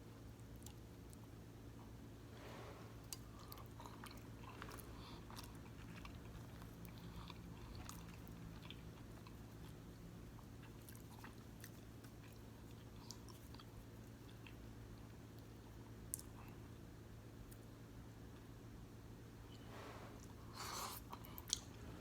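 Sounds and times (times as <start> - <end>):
person chewing food: 0.4 - 16.6, 20.2 - 22.0.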